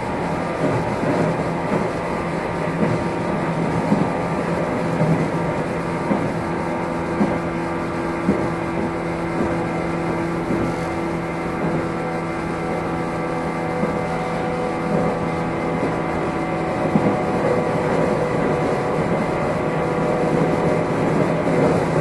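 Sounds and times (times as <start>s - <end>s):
train motor hum: 0.0s - 22.0s
train wheels rumbling on rails: 0.0s - 22.0s.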